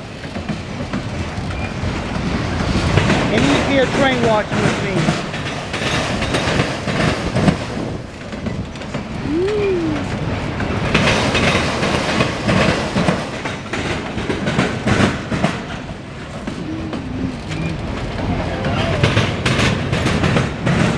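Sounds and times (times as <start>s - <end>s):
freight train rumbling past: 0.0s - 20.9s
wheels clacking over rail joints: 0.0s - 20.9s.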